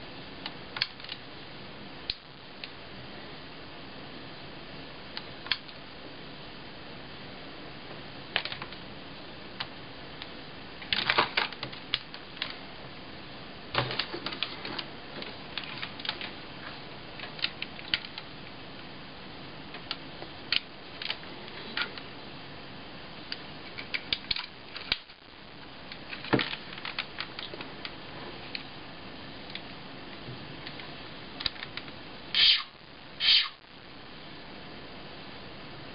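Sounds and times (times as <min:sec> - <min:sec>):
faint hiss: 0:00.0 - 0:35.9.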